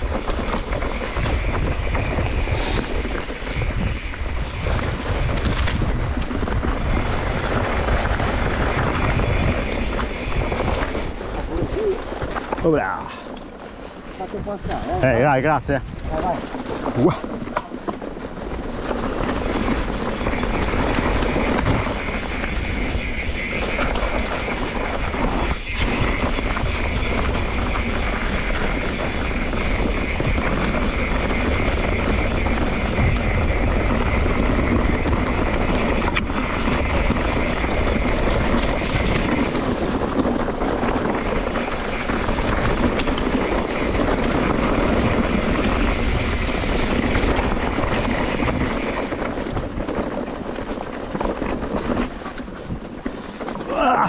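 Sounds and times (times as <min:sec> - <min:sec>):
bike rolling on trail: 0:00.0 - 0:54.0
wind buffeting microphone: 0:00.0 - 0:54.0.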